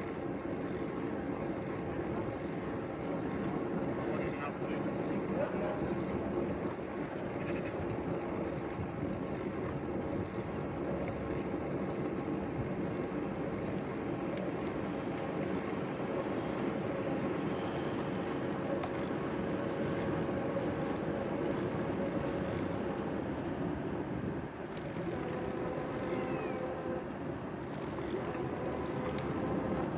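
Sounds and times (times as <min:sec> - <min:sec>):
bicycle rolling on pavement: 0:00.0 - 0:29.9
constant hum: 0:00.0 - 0:29.9.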